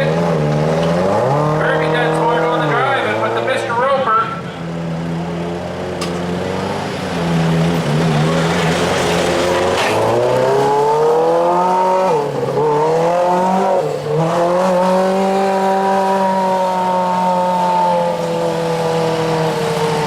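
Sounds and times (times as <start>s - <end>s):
lawn tractor engine revving: 0.0s - 3.9s, 6.0s - 20.0s.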